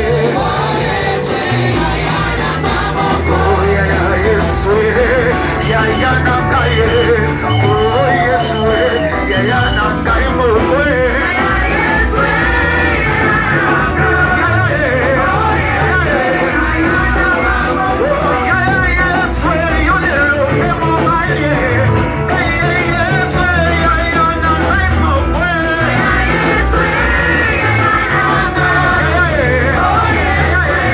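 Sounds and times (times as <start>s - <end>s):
band playing: 0.0s - 30.9s
bass and drum beat: 0.0s - 30.9s
voices singing: 0.0s - 30.9s.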